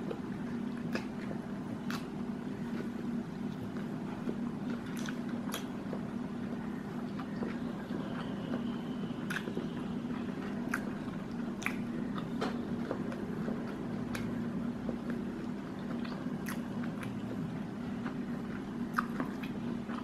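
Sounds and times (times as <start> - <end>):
person chewing crispy food: 0.0 - 8.6, 9.2 - 20.0
steady low hum: 0.0 - 20.0.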